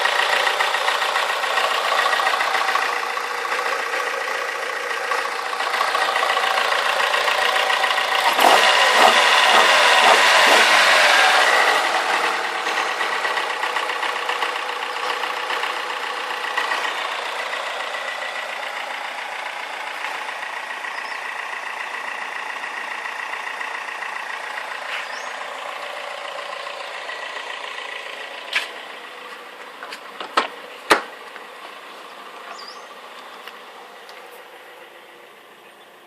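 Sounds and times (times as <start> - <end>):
engine clicking: 0.0 - 35.8
car engine idling: 0.0 - 36.0.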